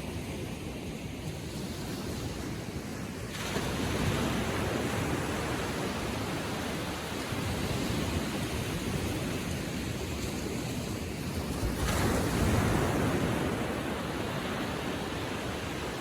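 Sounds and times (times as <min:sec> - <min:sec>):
waves lapping on shore: 0:00.0 - 0:16.0.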